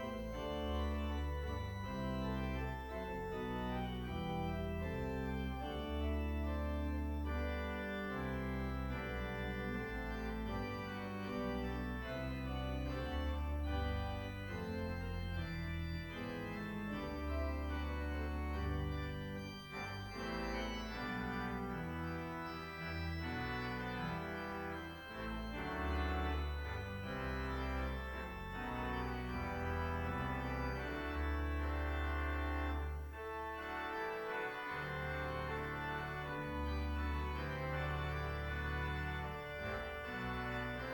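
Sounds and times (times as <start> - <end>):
organ playing slow chords: 0.0 - 40.9.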